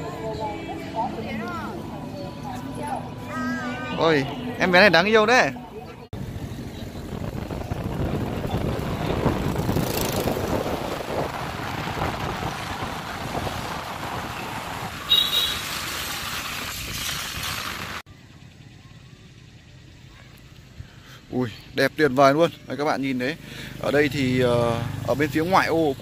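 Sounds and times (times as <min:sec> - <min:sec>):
passing vehicles rumbling: 0:00.0 - 0:18.5, 0:20.8 - 0:26.0.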